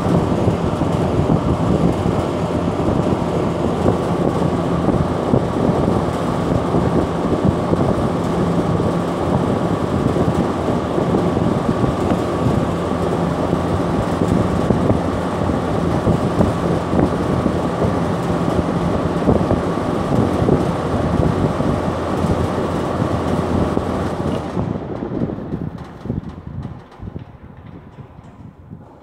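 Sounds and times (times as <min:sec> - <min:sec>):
motor hum: 0:00.0 - 0:27.9
exhaust fan running: 0:00.0 - 0:29.0.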